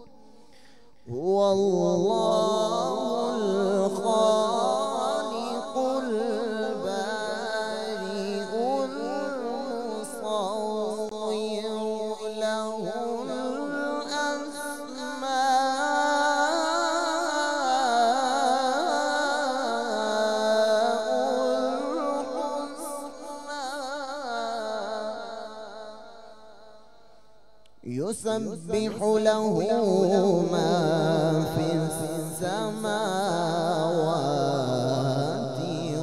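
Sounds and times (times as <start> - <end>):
man chanting through microphone: 0.0 - 27.1, 27.8 - 36.0.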